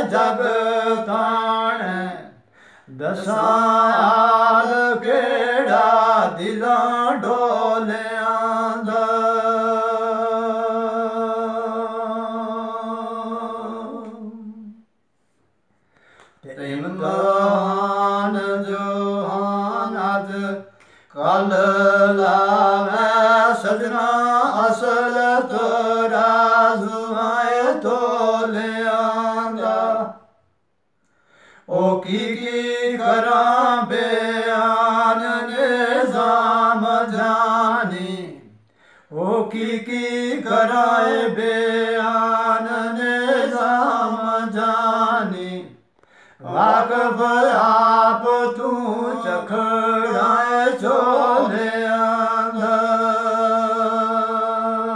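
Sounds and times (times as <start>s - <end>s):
man singing unaccompanied: 0.0s - 14.8s, 16.4s - 30.4s, 31.7s - 54.9s.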